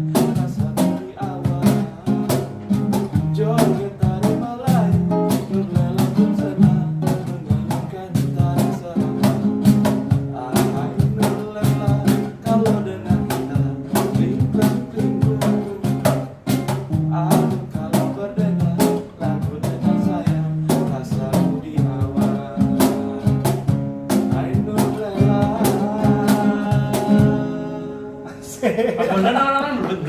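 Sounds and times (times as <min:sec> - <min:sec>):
acoustic guitar strumming: 0:00.0 - 0:28.5
cajon beat: 0:00.0 - 0:30.0.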